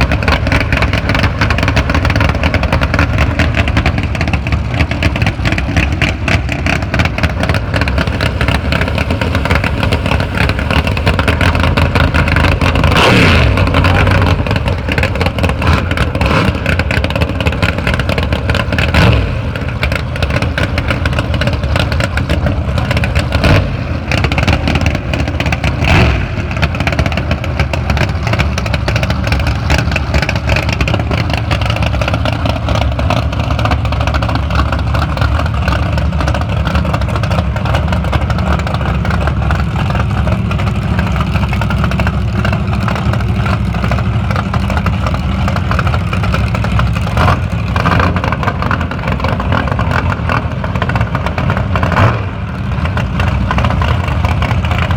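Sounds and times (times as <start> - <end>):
car engine rough idle: 0.0 - 54.9
engine throttle blips: 0.0 - 54.9.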